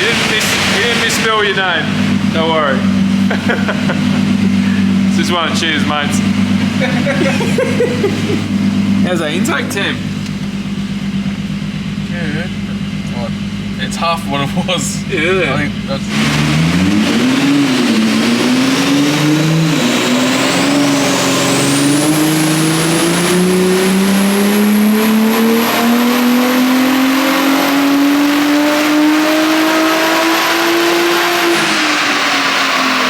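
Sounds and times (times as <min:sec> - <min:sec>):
car engine revving at full throttle: 0:00.0 - 0:33.0
high turbo whine: 0:00.0 - 0:33.0.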